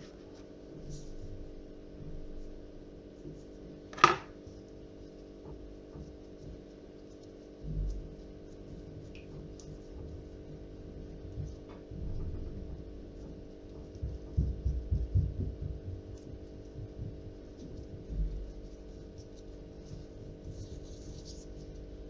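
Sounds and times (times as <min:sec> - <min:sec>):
handling soft dough: 0:00.0 - 0:22.0
steady low hum: 0:00.0 - 0:22.0.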